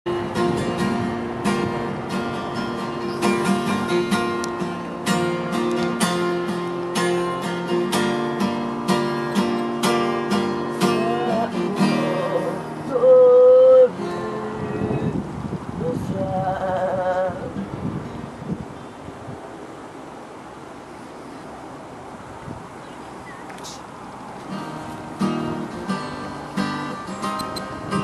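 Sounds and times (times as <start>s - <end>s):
acoustic guitar strumming: 0.1s - 19.0s, 24.4s - 28.0s.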